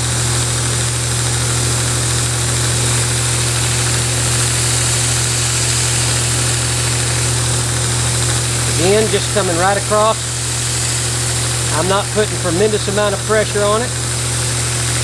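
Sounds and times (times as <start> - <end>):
belt grinder humming: 0.0 - 15.0
steel grinding on sanding belt: 0.4 - 15.0.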